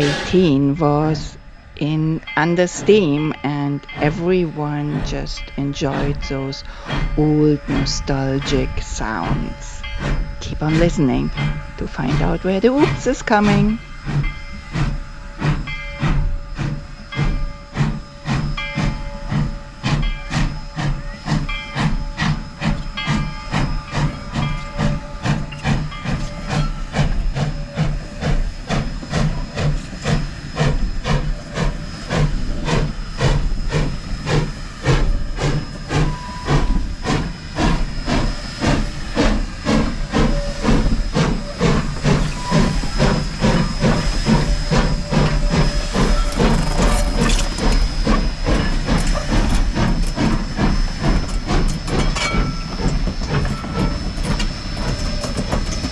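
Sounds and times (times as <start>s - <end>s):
steam hissing: 0.0s - 55.9s
steam locomotive chuffing: 0.0s - 55.9s.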